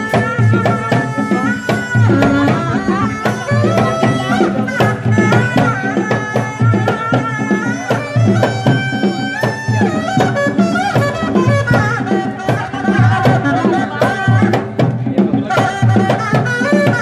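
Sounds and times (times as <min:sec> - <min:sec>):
hand drums beating: 0:00.0 - 0:17.0
shawm playing ornamented melody: 0:00.0 - 0:17.0.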